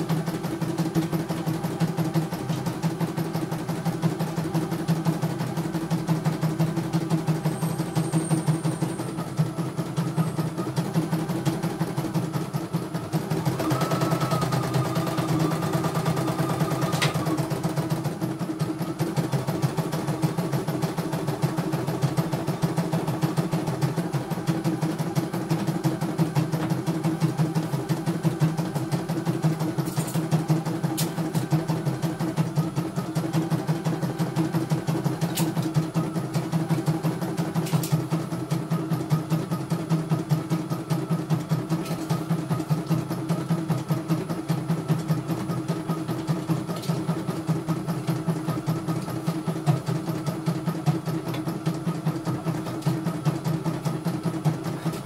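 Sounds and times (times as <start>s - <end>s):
embroidery machine needle running: 0.0s - 55.0s.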